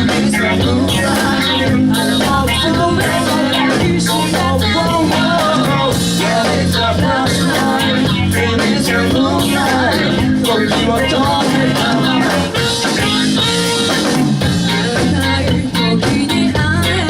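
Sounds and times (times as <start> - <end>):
person singing: 0.0 - 17.0
upbeat rock band music: 0.0 - 17.0.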